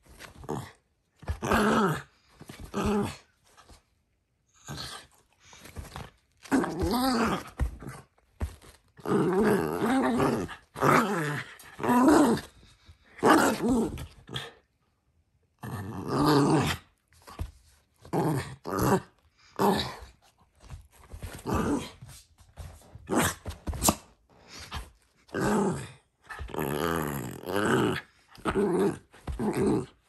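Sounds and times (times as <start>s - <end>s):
small dog play-growling: 0.0s - 3.8s, 4.5s - 14.7s, 15.6s - 30.0s.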